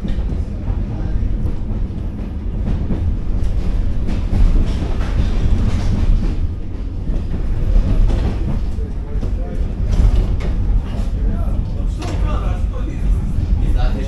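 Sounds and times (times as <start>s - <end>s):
train rumbling and clattering: 0.0s - 14.0s.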